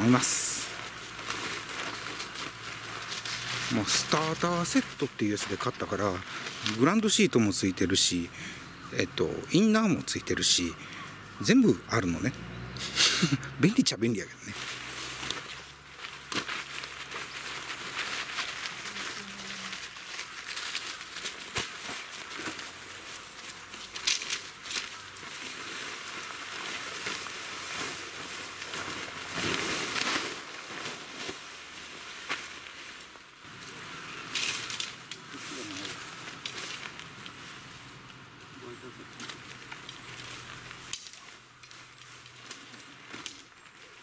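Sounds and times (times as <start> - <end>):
tent fabric rustling: 0.0 - 7.2, 14.4 - 44.0.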